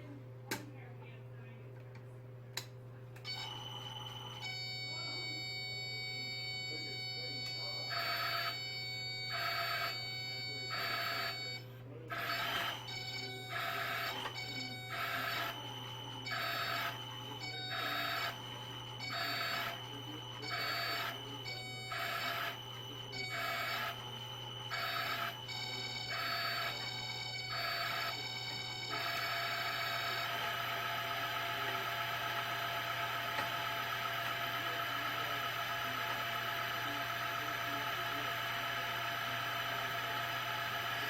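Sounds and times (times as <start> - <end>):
machine whining on and off: 3.3 - 41.0.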